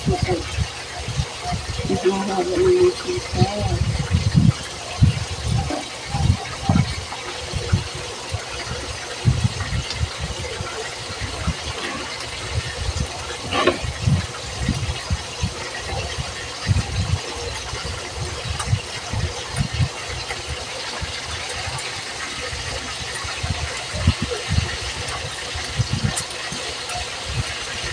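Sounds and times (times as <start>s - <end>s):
steady background hum: 0.0s - 27.9s.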